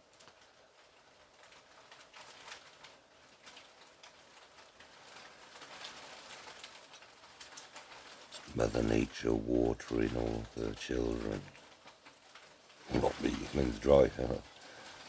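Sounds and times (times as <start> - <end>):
hail and rain falling: 0.0 - 15.0.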